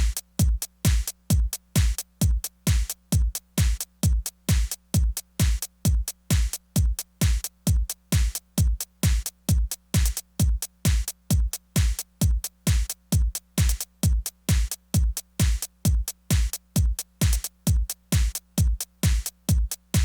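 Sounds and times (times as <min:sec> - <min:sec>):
bright hi-hat hits: 0:00.0 - 0:20.0
drum machine kick drum: 0:00.0 - 0:20.0.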